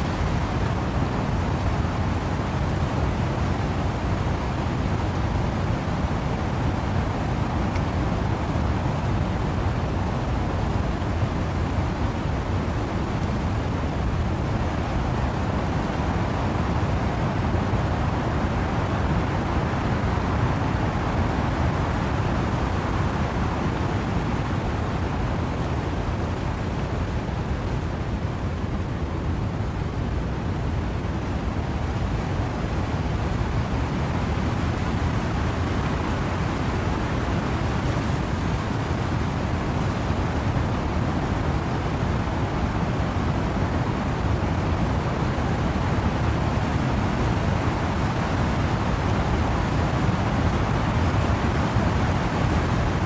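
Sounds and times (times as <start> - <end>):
wind through trees: 0.0 - 53.0
wind-driven rain: 0.0 - 53.0.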